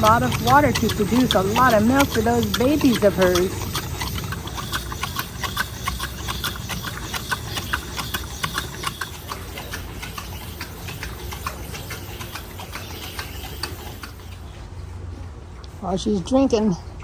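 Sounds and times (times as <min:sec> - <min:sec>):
pig drinking water slurping: 0:00.0 - 0:15.8
steady low hum: 0:00.0 - 0:17.0.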